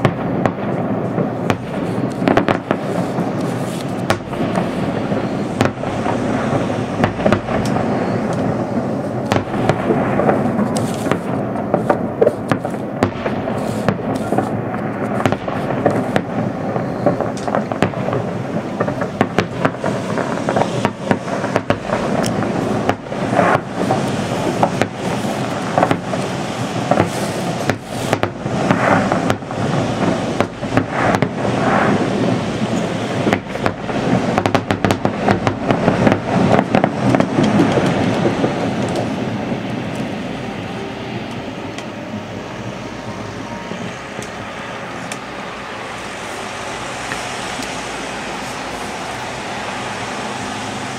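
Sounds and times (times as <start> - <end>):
background rumble: 0.0 - 50.9
fireworks bangs and crackling: 0.0 - 50.9.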